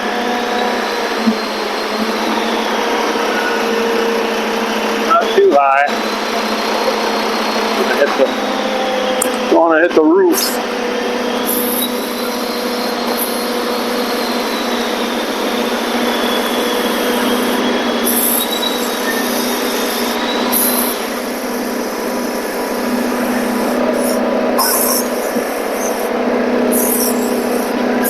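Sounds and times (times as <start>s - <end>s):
forklift engine running: 0.0s - 28.0s
thin high whine: 0.0s - 28.0s.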